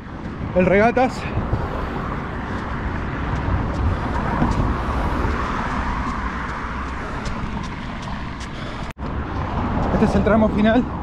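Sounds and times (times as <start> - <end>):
road traffic going by: 0.0 - 11.0.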